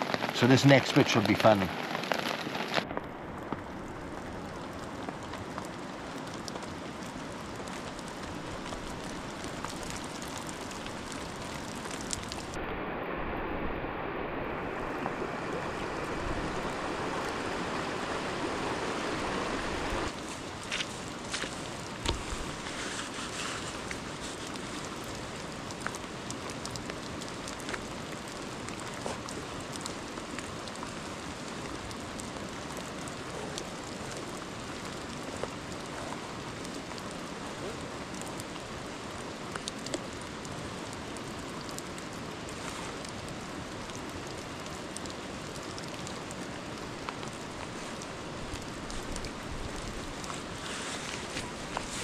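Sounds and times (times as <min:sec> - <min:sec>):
water drips and ticks: 0:00.0 - 0:12.6, 0:20.1 - 0:52.0
steady rain hiss: 0:00.0 - 0:52.0.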